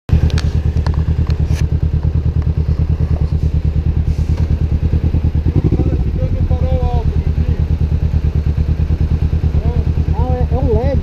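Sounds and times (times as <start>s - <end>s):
vehicle engine running: 0.1s - 11.0s.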